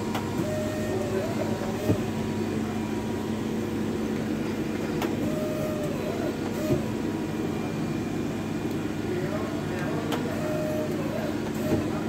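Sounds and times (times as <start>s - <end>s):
lathe mechanical hum: 0.0s - 12.0s.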